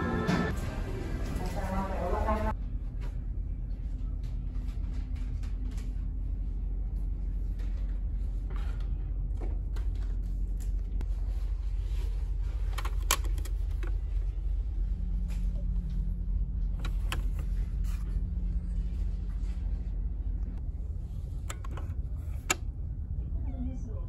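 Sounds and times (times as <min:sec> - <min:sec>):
low machinery hum: 0:00.0 - 0:24.0.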